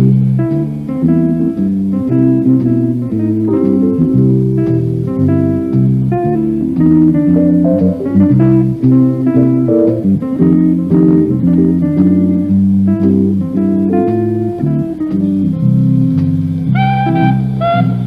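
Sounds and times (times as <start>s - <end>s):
bass line: 0.0s - 18.0s
plucked guitar notes: 0.0s - 18.0s.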